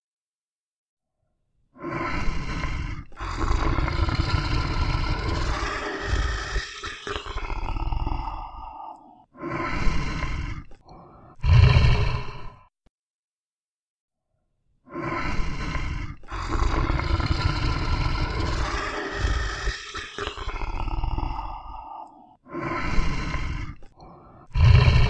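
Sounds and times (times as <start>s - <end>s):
bear growling: 1.8s - 12.6s, 14.9s - 25.0s.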